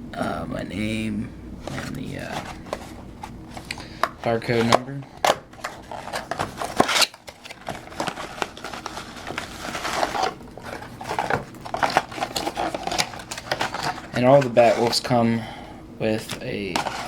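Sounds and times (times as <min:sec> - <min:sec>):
paper and plastic crinkling: 0:01.6 - 0:15.2, 0:16.2 - 0:17.0.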